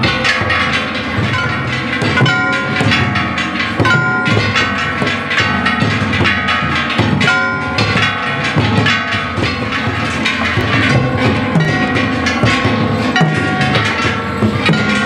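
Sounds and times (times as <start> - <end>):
brass gongs ringing: 0.0 - 15.0
taiko drum beating: 0.0 - 15.0.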